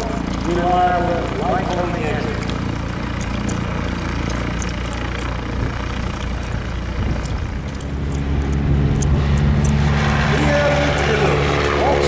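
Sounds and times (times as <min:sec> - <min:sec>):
biplane piston engine running: 0:00.0 - 0:12.0.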